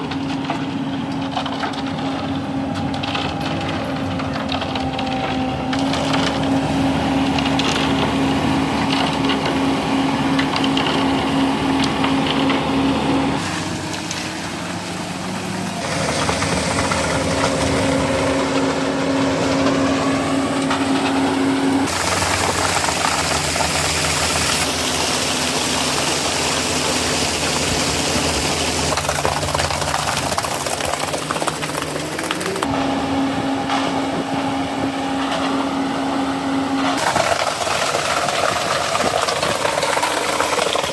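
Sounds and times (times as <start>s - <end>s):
diesel machinery engines running: 0.0s - 40.9s.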